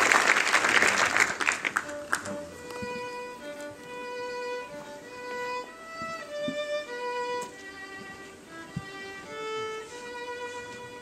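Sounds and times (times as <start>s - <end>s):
violin playing slow melody: 1.8s - 11.0s.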